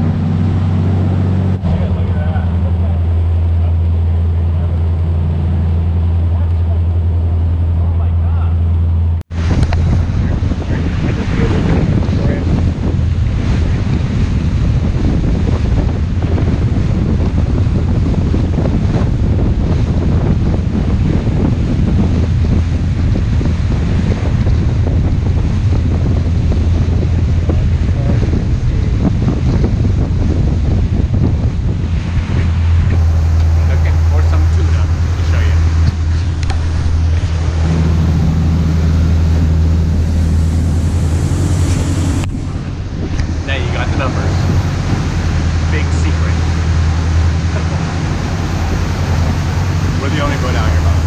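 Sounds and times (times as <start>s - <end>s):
water rushing past boat: 0.0s - 51.0s
wind noise on microphone: 0.0s - 51.0s.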